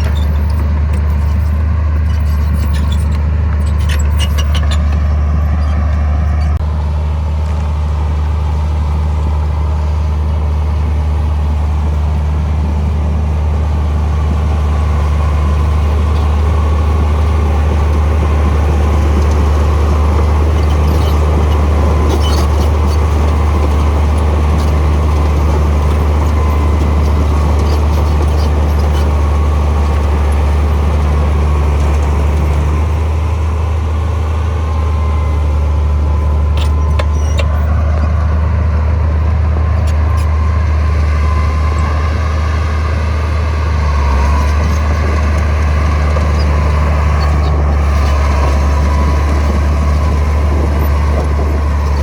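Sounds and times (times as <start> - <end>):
heavy diesel machinery drone: 0.0 - 52.0.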